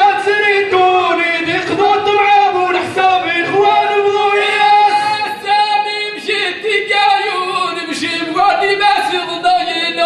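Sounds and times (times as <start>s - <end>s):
man chanting into a microphone: 0.0s - 10.0s.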